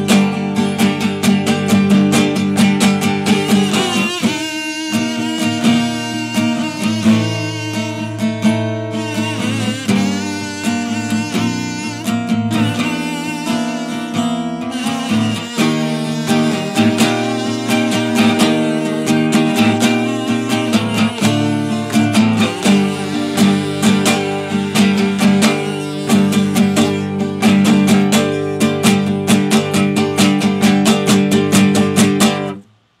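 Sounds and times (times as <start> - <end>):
acoustic guitar strumming chords: 0.0 - 32.8.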